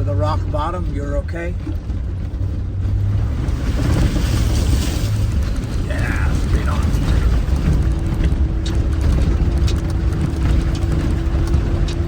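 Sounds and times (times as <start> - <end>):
truck engine rumbling with whine: 0.0 - 12.0.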